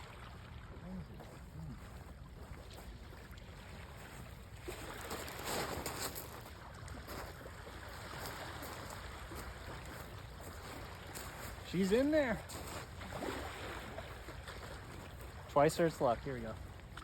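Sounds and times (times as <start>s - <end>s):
waves on beach: 0.0s - 17.0s
wind: 0.0s - 17.0s.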